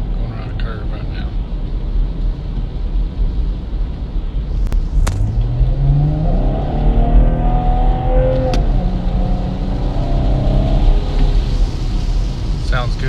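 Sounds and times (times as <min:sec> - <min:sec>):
car exhaust accelerating: 0:01.2 - 0:13.0.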